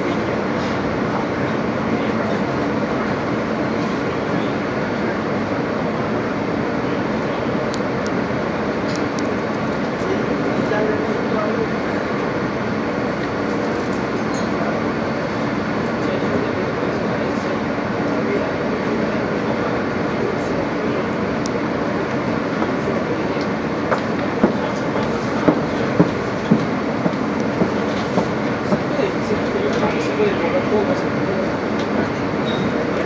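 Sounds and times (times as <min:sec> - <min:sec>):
subway car rumbling in tunnel: 0:00.0 - 0:33.0.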